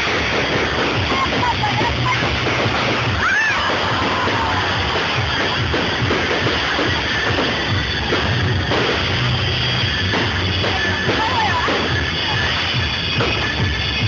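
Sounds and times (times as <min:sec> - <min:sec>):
music with drums: 0:00.0 - 0:14.0.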